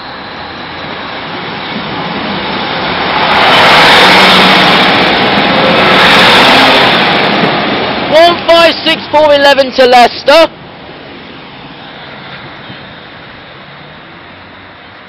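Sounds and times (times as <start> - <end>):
train passing on rails: 0.0 - 15.0.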